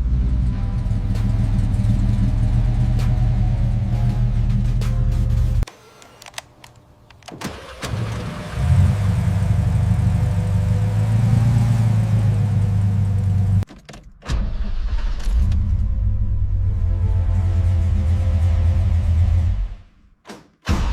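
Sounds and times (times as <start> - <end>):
car engine starting and running: 0.0 - 5.7, 7.1 - 19.7.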